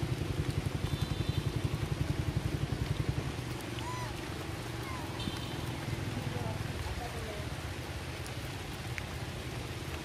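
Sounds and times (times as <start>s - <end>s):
rain hissing on wet ground: 0.0s - 10.0s.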